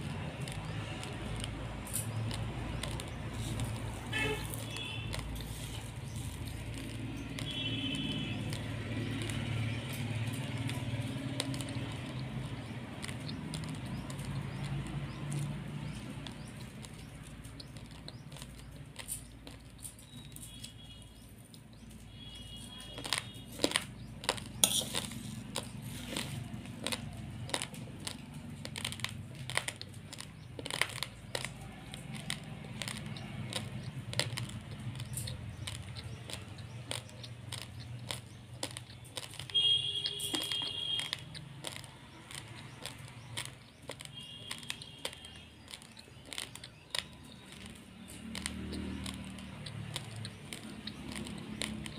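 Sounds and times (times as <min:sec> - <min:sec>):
rice grains being crunched: 0:00.0 - 0:51.9.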